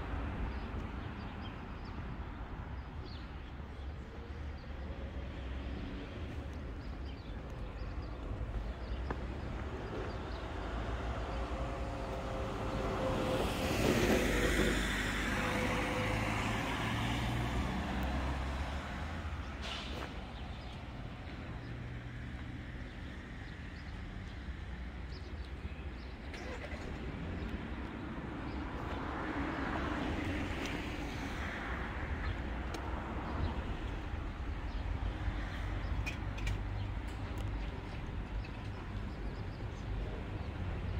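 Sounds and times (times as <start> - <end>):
low traffic rumble: 0.0 - 40.9
vehicles passing by: 0.0 - 40.9.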